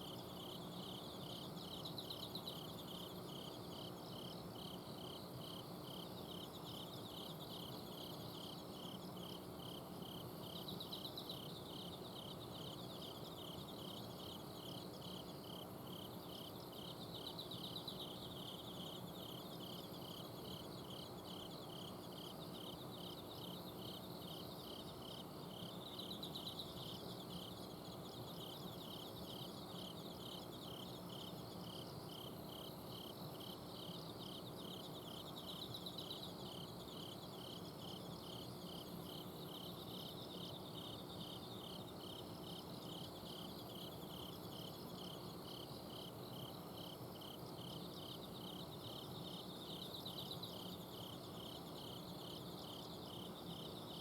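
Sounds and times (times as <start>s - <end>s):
cricket chirping: 0.0s - 54.0s
high insect trill: 0.0s - 54.0s.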